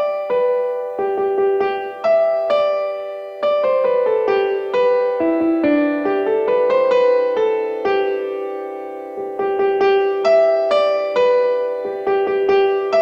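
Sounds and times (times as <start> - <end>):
christmas carol on electric piano: 0.0 - 13.0.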